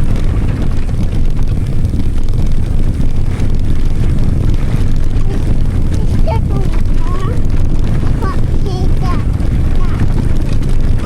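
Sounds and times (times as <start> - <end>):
bike tyres on rough trail: 0.0 - 11.0
wind rumbling on microphone: 0.0 - 11.0.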